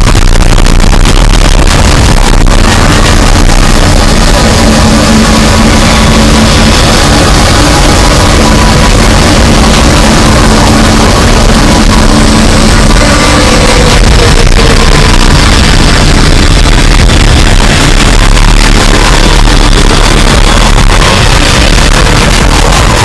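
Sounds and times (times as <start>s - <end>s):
harsh distorted noise: 0.0s - 23.0s
steady tones: 0.0s - 23.0s.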